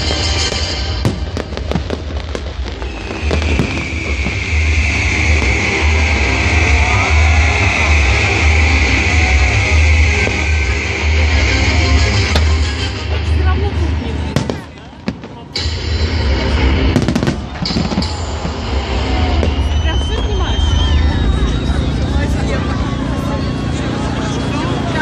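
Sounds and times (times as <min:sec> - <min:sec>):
fireworks bursting and crackling: 0:00.0 - 0:23.5
loud rock music: 0:00.0 - 0:25.0.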